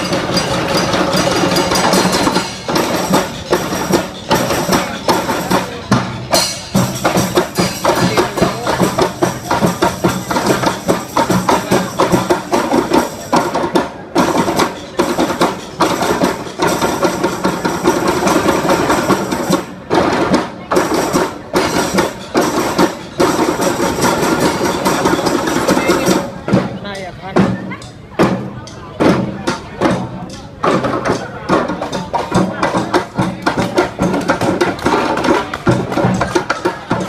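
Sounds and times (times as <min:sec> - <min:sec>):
percussion ensemble playing: 0:00.0 - 0:37.0.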